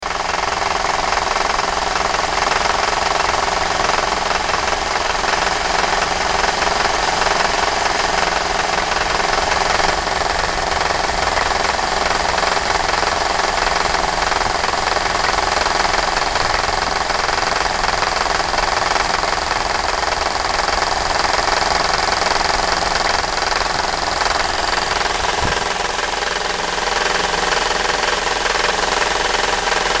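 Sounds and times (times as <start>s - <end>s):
car engine running: 0.1s - 30.0s.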